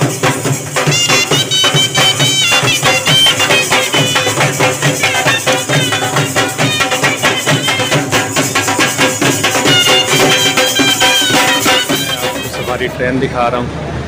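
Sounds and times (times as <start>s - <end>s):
shehnai reed melody: 0.0s - 13.4s
dhol drum strokes: 0.0s - 13.5s.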